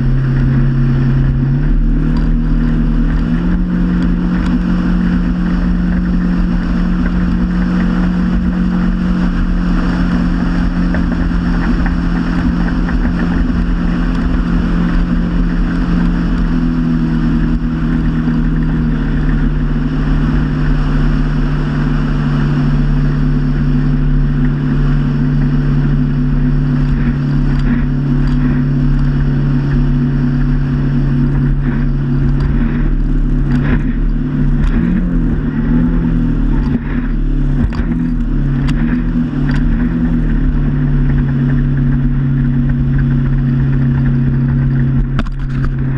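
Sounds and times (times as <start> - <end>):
motorboat engine running: 0.0 - 45.9
water and wind noise: 0.0 - 45.9.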